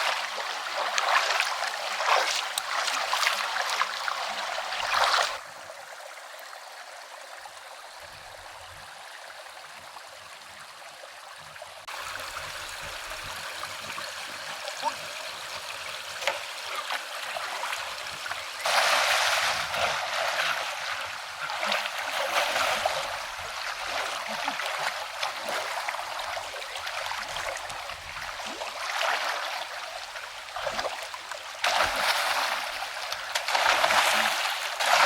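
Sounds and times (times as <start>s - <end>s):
water splashing and sloshing: 0.0s - 5.4s, 11.4s - 35.0s
stream water trickling: 0.0s - 35.0s.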